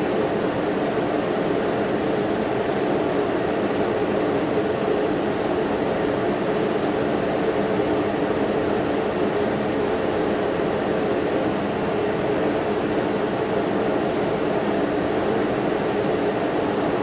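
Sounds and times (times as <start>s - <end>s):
steady hum with hiss: 0.0s - 17.0s.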